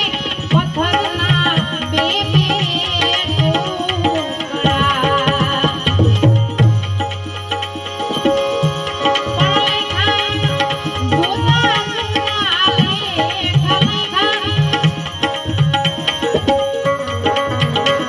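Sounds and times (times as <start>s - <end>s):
hand drums: 0.0s - 18.0s
wavering held melody: 3.3s - 18.0s.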